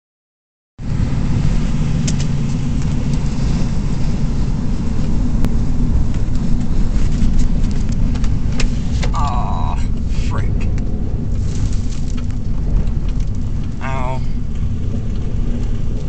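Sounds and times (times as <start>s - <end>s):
car engine and road noise: 0.8s - 16.0s.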